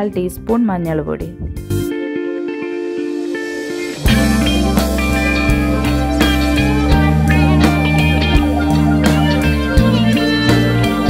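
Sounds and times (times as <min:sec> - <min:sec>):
rock music with guitar and drums: 0:01.5 - 0:11.0.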